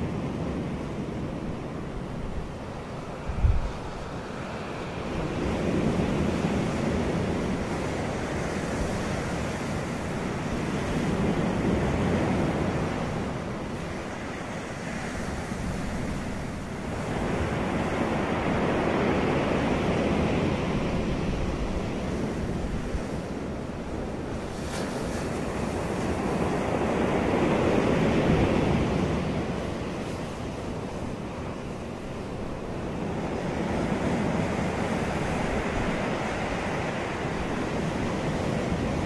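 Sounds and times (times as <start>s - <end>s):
ocean surf breaking: 0.0s - 39.0s.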